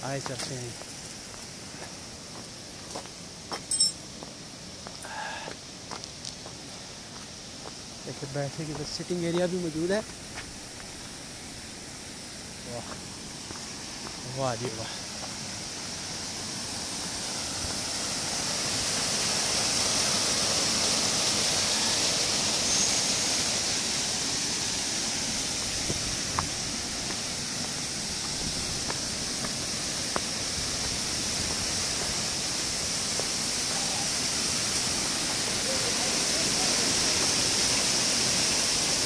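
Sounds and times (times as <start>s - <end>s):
waterfall rushing: 6.5s - 39.0s.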